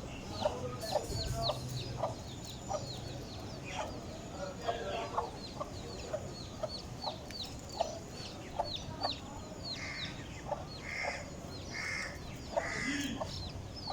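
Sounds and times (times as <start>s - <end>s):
chicks peeping: 0.1s - 13.9s.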